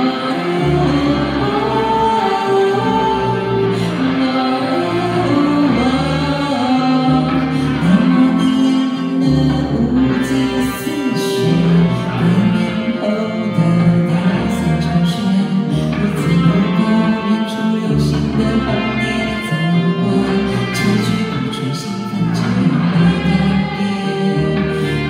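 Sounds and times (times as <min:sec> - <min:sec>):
bass line: 0:00.0 - 0:25.0
electric guitar chords: 0:00.0 - 0:25.0
woman singing slow song: 0:00.0 - 0:25.0.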